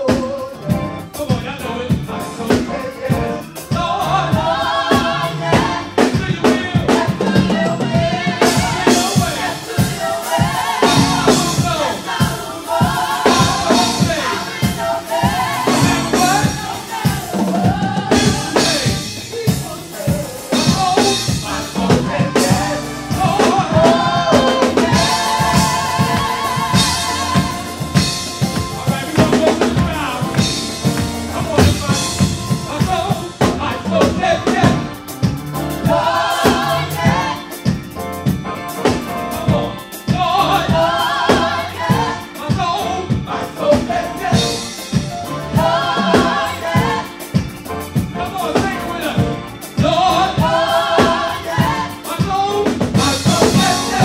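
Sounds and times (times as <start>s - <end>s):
drum kit beat: 0.0s - 54.0s
vocal group singing: 0.0s - 54.0s.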